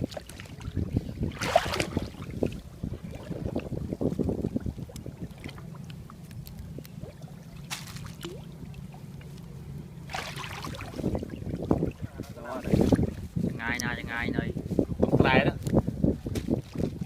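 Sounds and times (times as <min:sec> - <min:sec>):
water splashing in floodwater: 0:00.0 - 0:13.5, 0:16.4 - 0:17.0
steady low hum: 0:00.4 - 0:16.4.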